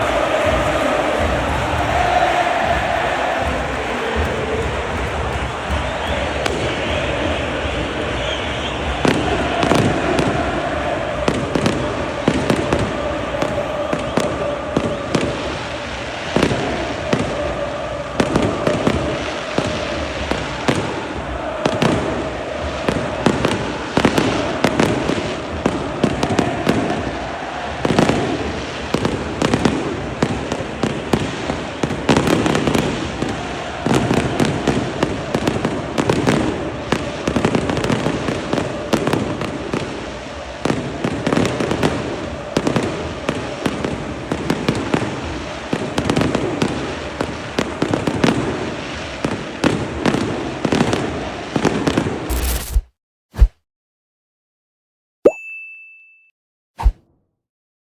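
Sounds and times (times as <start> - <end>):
stadium crowd singing: 0.0 - 52.4
fireworks and firecrackers banging: 0.0 - 52.9.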